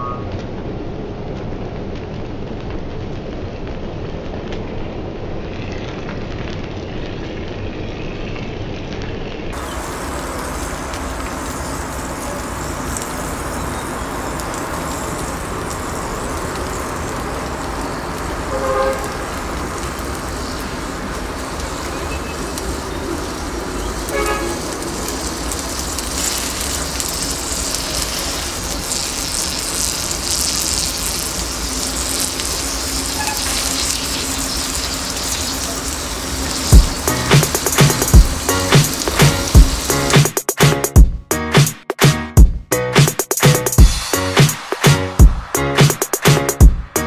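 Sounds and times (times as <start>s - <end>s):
fire rushing and hissing: 0.3s - 40.5s.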